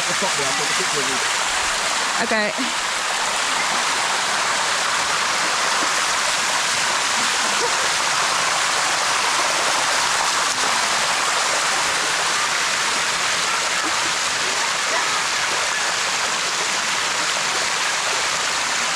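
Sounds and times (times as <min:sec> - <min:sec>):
waterfall rushing over rock: 0:00.0 - 0:18.9.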